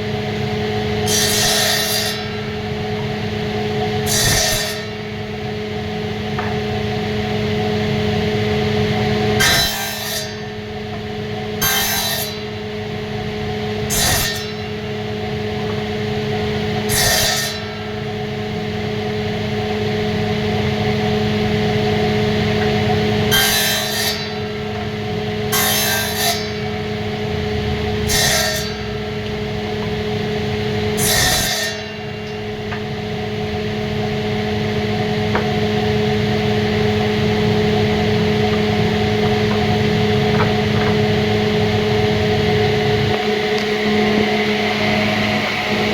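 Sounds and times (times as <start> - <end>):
machine hum: 0.0 - 45.9.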